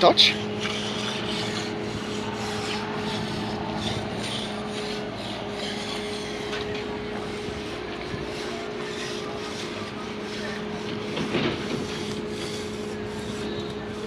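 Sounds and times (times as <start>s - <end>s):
hand tool scraping concrete: 0.0s - 14.0s
steady low hum: 0.0s - 14.0s.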